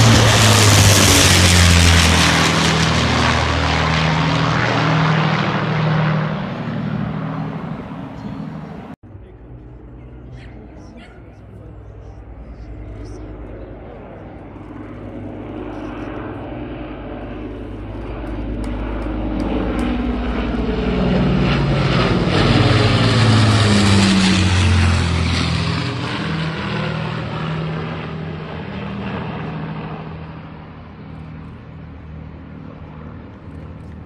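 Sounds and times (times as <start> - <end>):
propeller aircraft engine drone: 0.0 - 34.0.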